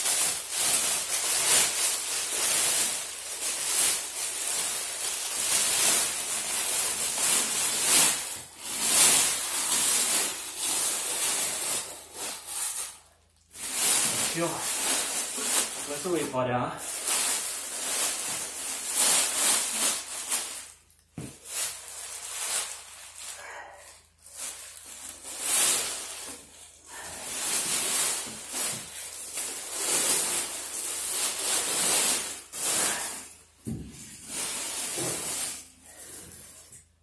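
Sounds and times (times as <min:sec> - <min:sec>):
plastic wrapping crinkling: 0:00.0 - 0:37.0.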